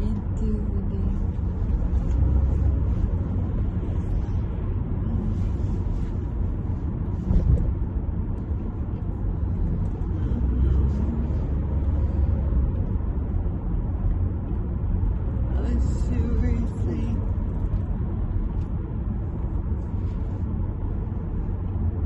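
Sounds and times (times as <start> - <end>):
car rumbling on road: 0.0 - 22.0.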